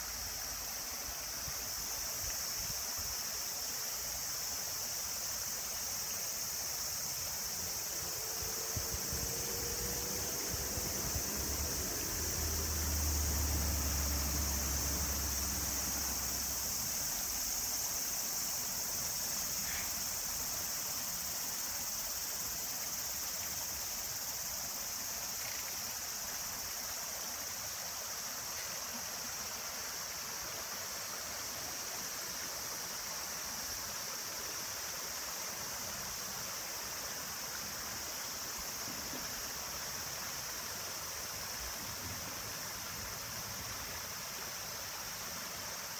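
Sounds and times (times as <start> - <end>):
high-pitched insect chorus: 0.0 - 45.9
stream running over stones: 0.0 - 45.9.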